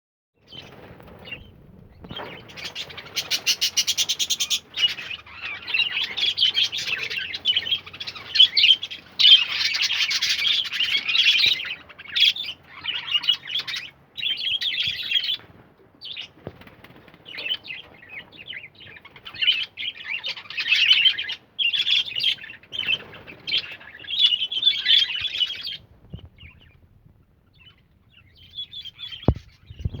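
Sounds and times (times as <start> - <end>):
birds chirping and chattering: 0.4 - 30.0.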